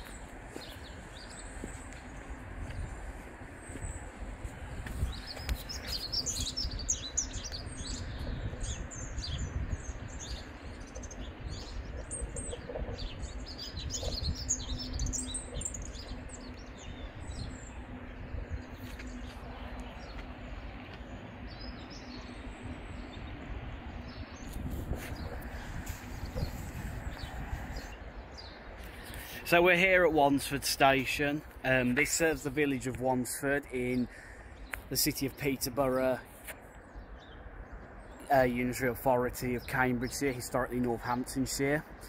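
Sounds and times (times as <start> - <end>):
small songbirds chirping: 0.0 - 42.0
steady low rumble: 0.0 - 42.0.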